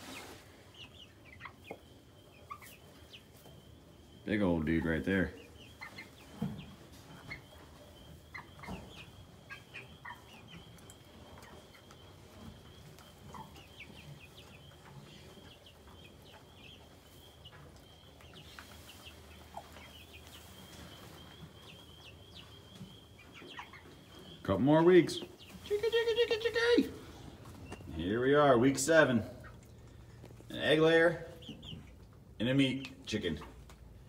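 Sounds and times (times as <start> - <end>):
chicks peeping and clucking: 0.0 - 34.0.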